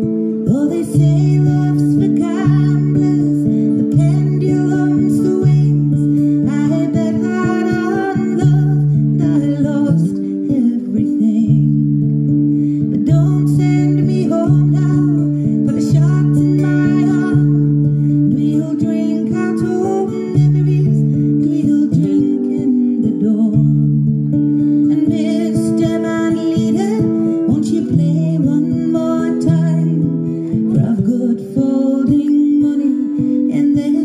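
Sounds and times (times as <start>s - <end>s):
acoustic guitar waltz: 0.0s - 34.0s
woman singing: 0.0s - 34.0s.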